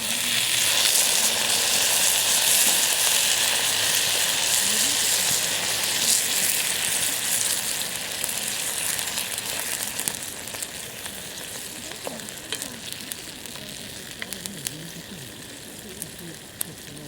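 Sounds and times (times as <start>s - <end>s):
food sizzling in a skillet: 0.0s - 17.0s
sharp pops and crackles: 0.0s - 17.0s.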